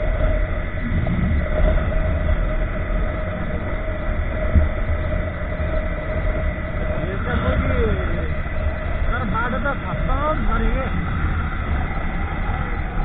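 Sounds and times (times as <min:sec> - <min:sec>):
motorcycle engine hum: 0:00.0 - 0:13.0
wind buffeting microphone: 0:00.0 - 0:13.0.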